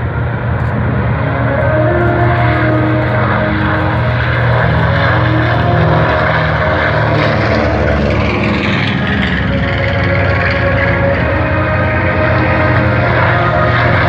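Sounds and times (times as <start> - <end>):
propeller plane engines droning: 0.0 - 14.0.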